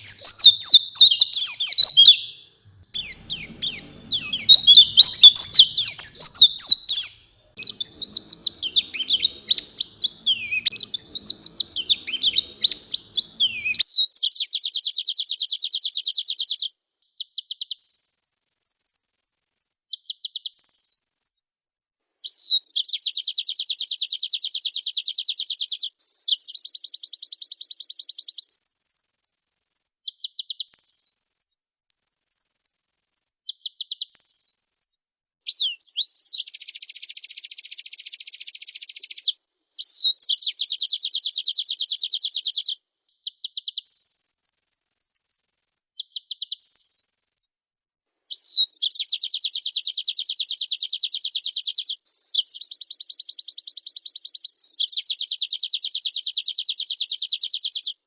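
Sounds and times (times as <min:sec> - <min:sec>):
bird singing fast chattering song: 0:00.0 - 0:21.4, 0:22.4 - 0:47.5, 0:48.3 - 0:58.0.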